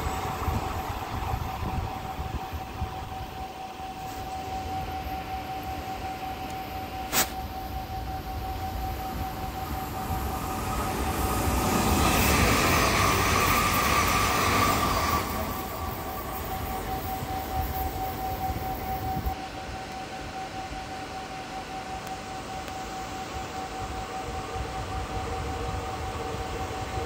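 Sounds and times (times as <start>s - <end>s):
electric train running noise: 0.0s - 27.0s
train whine: 0.0s - 27.0s.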